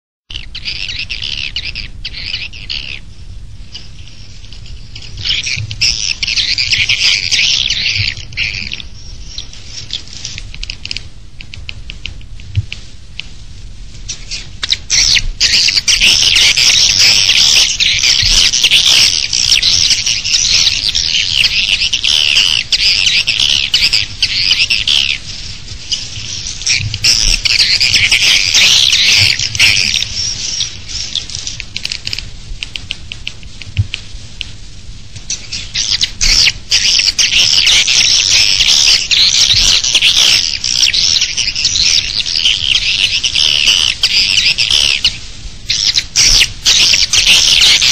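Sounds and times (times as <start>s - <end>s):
swiftlet calls chirping: 0.3s - 11.1s, 14.0s - 34.5s, 35.1s - 47.9s.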